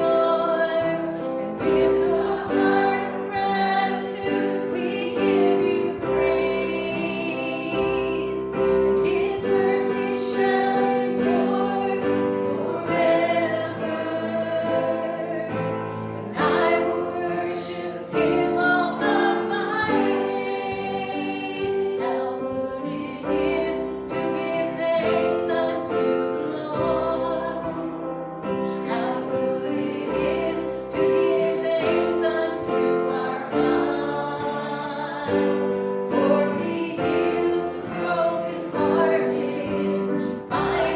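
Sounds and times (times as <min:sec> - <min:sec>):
instrumental accompaniment: 0:00.0 - 0:40.9
voices singing a hymn: 0:00.0 - 0:40.9.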